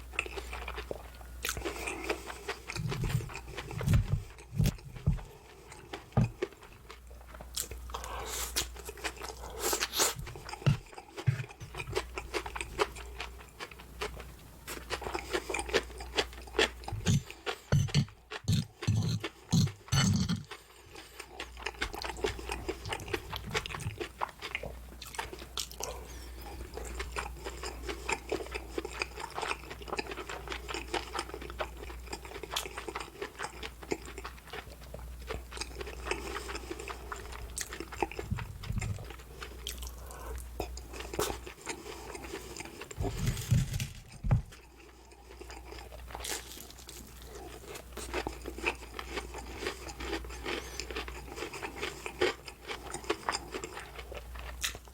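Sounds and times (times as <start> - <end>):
chewing with crisp crunches: 0.0 - 54.9.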